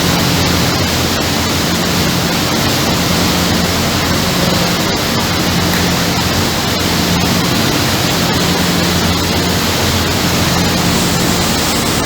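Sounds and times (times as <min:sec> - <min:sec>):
boat engine hum: 0:00.0 - 0:12.0.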